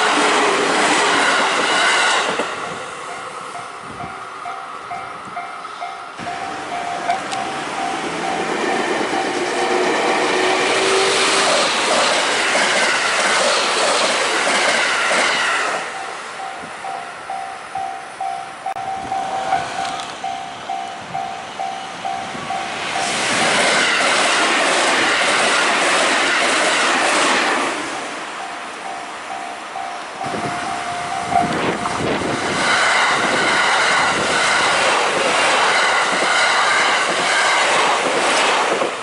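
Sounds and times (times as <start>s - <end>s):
electric trains passing: 0.0s - 39.0s.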